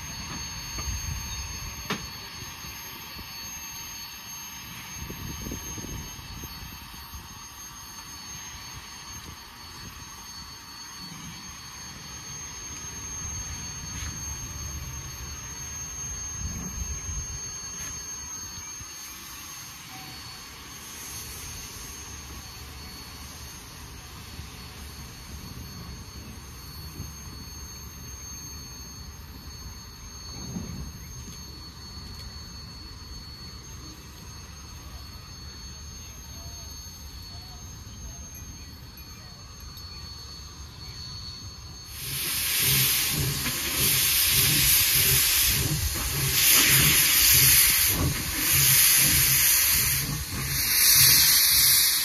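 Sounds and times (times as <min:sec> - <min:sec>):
steam locomotive low rumble: 0:00.0 - 0:52.0.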